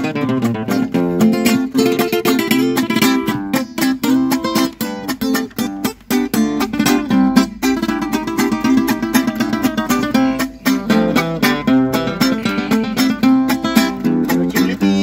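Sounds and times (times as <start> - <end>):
acoustic guitars playing fast: 0.0 - 15.0.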